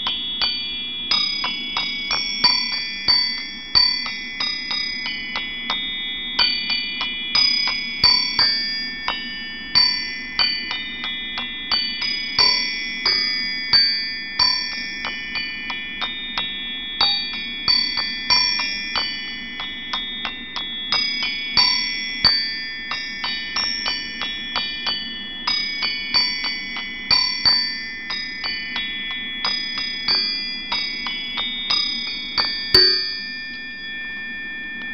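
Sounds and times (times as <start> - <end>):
bell-like metal chimes: 0.0 - 34.9.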